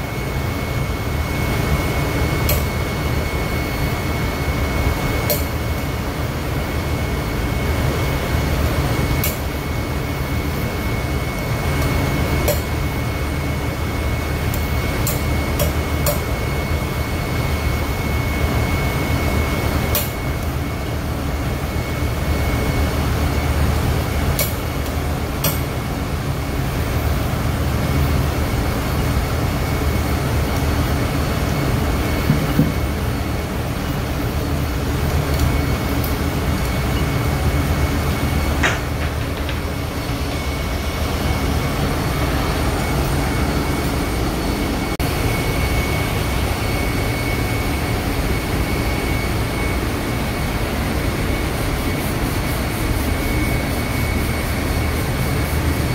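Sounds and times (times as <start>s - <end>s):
faint high whine: 0.0s - 55.9s.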